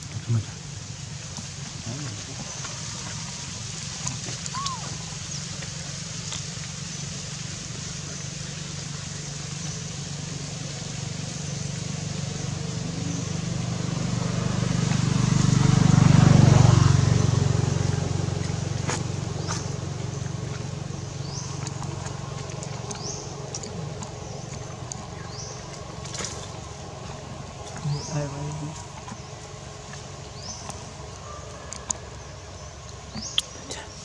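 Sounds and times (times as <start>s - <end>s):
motor vehicle passing by: 1.2s - 34.0s.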